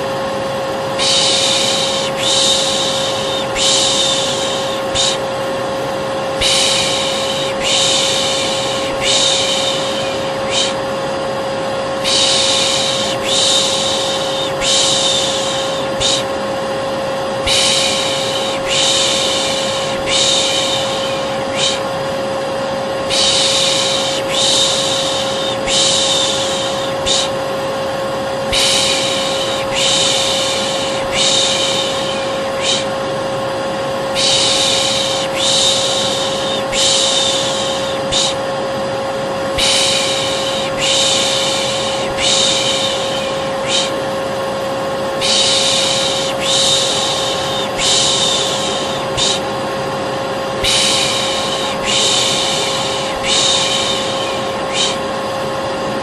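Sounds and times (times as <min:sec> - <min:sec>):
hair dryer humming: 0:00.0 - 0:56.0
person shushing: 0:01.0 - 0:05.3, 0:06.4 - 0:10.9, 0:12.0 - 0:16.4, 0:17.4 - 0:22.0, 0:23.0 - 0:27.5, 0:28.5 - 0:33.1, 0:34.1 - 0:38.5, 0:39.5 - 0:44.2, 0:45.2 - 0:49.6, 0:50.6 - 0:55.2.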